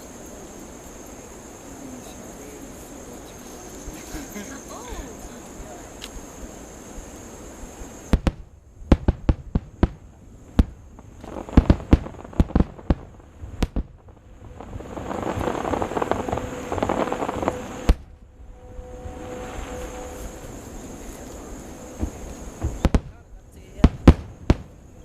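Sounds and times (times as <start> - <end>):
firework crackling: 0.0 - 25.0
firework shells bursting: 3.2 - 24.9.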